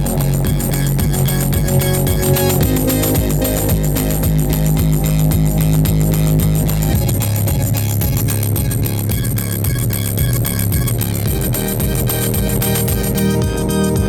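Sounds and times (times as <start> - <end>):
rock music with heavy bass: 0.0 - 14.0.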